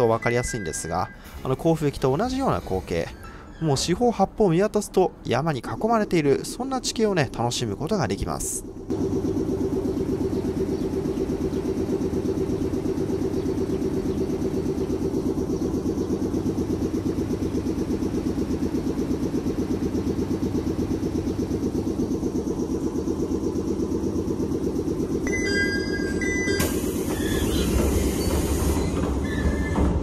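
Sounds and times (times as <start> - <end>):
train running rumble: 5.8 - 30.0.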